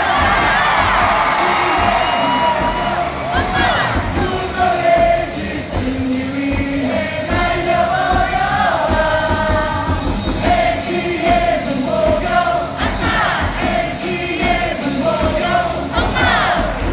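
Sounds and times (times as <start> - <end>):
stadium crowd singing: 0.0 - 16.9.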